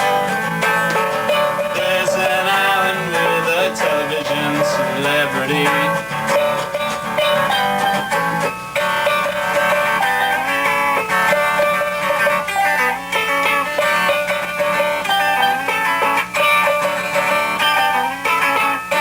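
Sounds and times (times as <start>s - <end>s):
strummed and picked guitar: 0.0s - 19.0s.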